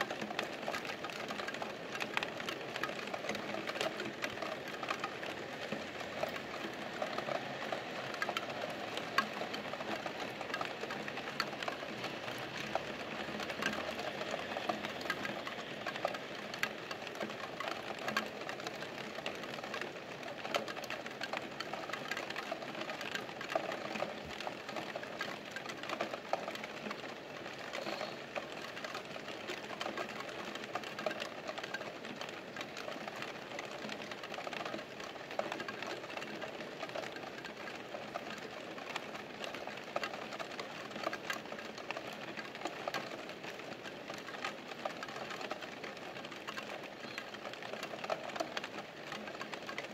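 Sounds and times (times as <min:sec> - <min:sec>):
raindrops ticking: 0:00.0 - 0:49.9.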